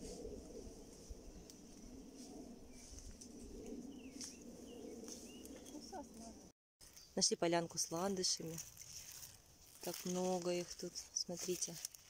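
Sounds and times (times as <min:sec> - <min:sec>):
rustle of leaves and branches: 0:00.0 - 0:12.0.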